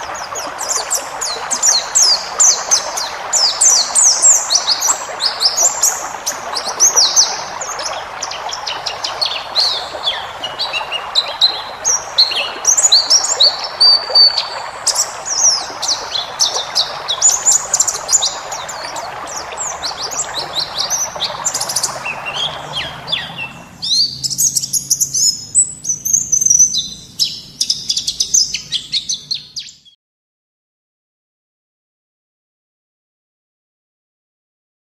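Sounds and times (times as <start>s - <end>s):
birds twittering and trilling: 0.0s - 29.9s.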